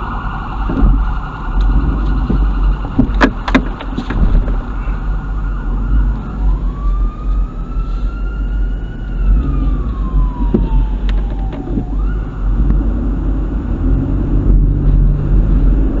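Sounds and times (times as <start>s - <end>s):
ambulance siren wailing: 0.0s - 13.8s
engine and road rumble: 0.0s - 16.0s.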